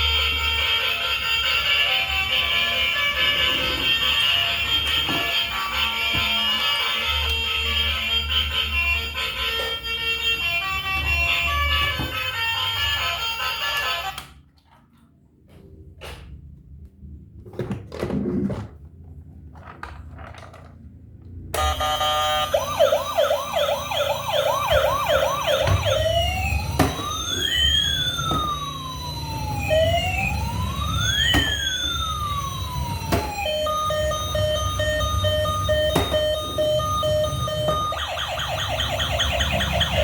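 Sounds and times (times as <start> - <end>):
toy electronic siren: 0.0 - 14.3, 21.6 - 40.0.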